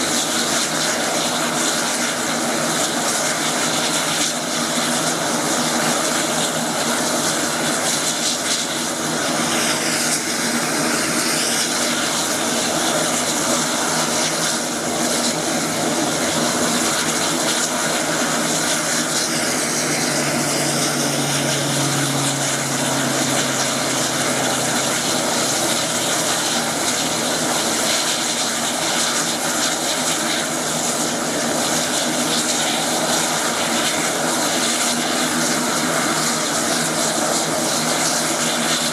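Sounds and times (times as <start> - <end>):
turboprop engine drone: 0.0 - 38.9.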